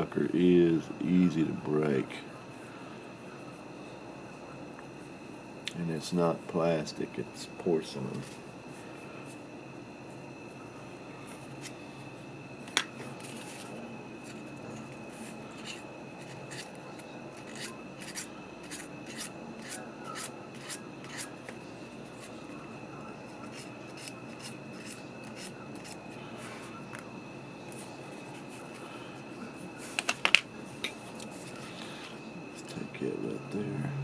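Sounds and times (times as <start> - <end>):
faint high hum: 0.0 - 34.0.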